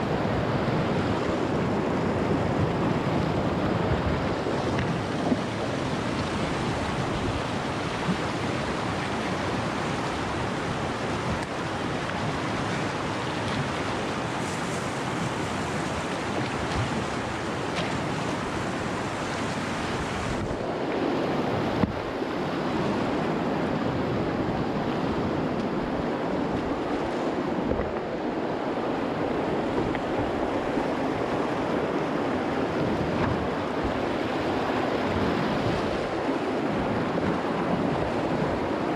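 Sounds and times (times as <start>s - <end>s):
river water rushing: 0.0s - 38.9s
wind buffeting microphone: 0.0s - 38.9s.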